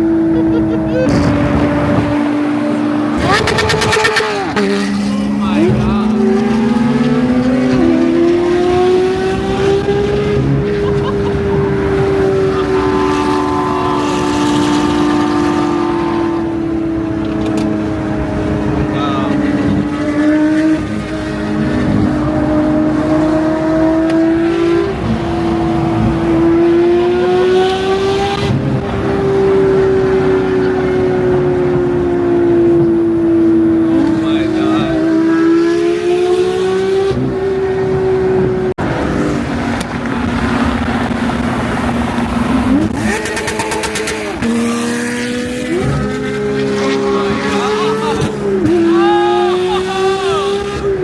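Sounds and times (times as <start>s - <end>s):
sports car engine droning: 0.0s - 51.0s.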